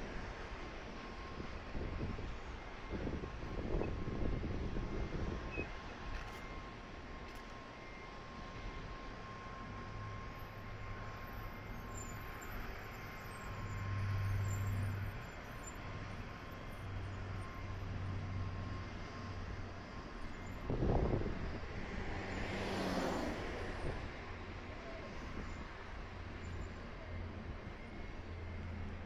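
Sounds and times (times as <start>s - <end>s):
distant traffic and trains rumble: 0.0s - 29.0s.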